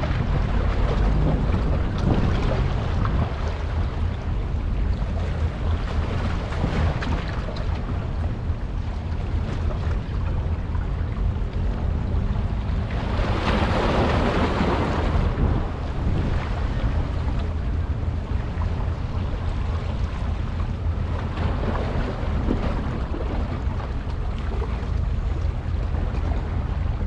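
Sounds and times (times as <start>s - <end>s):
rush of water: 0.0s - 27.0s
steady low rumble: 0.0s - 27.0s
wind on microphone: 0.0s - 27.0s.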